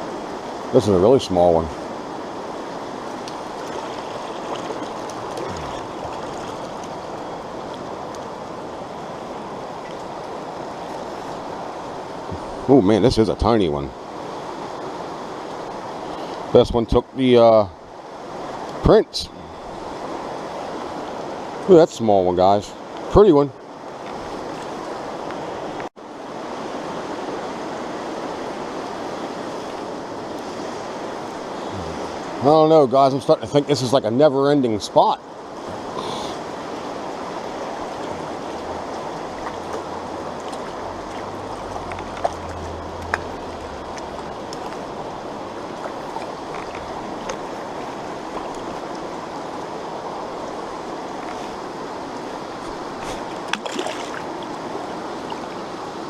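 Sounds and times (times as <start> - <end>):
brook running water: 0.0 - 56.0.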